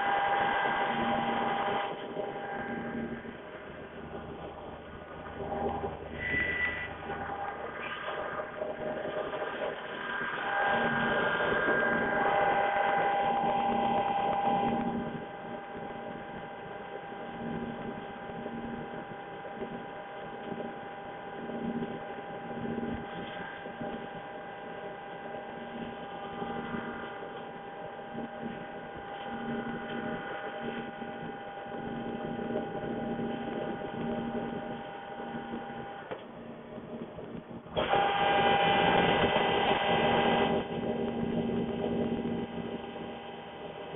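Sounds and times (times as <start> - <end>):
machine whining and running: 0.0 - 43.9.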